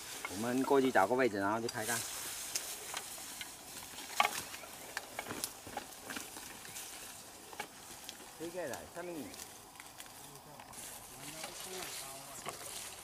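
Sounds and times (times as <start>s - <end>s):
footsteps rustling through grass: 0.0s - 13.0s
stems snapping: 0.1s - 13.0s.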